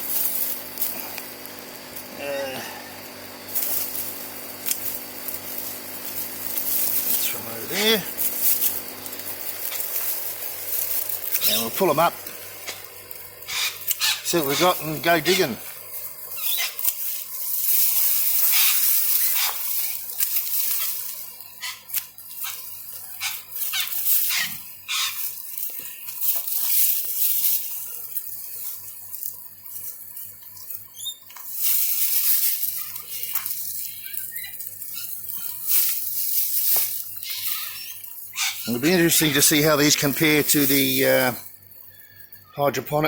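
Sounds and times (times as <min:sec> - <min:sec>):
plants being pulled up: 0:03.4 - 0:41.6
hands digging through soil: 0:05.6 - 0:41.4.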